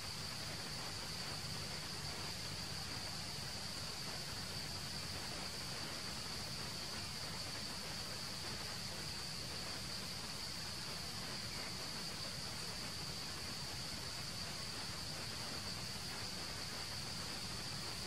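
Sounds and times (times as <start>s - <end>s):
faint even hiss: 0.0s - 18.0s.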